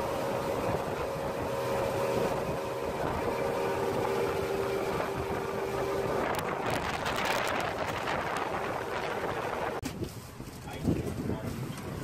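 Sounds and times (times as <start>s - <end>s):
motorboat engine drone: 0.0s - 9.8s
rush of wind and water: 0.0s - 12.0s.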